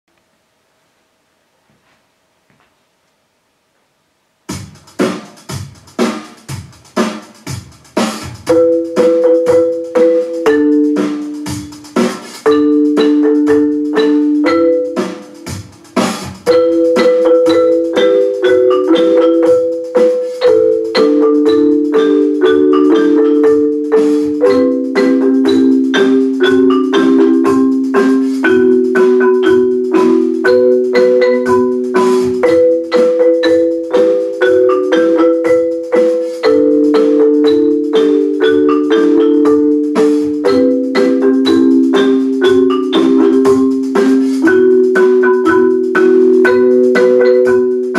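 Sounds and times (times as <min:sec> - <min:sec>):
marimba ensemble playing: 0:07.9 - 0:47.9.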